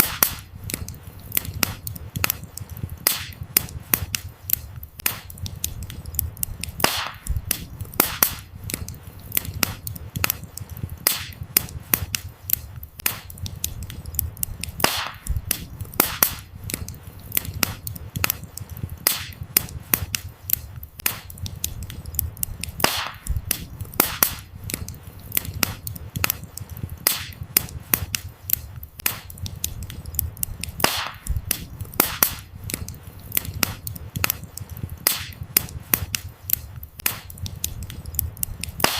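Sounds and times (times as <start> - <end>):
firewood crackling and popping: 0.0 - 38.9
low rumble of flames: 0.0 - 38.9.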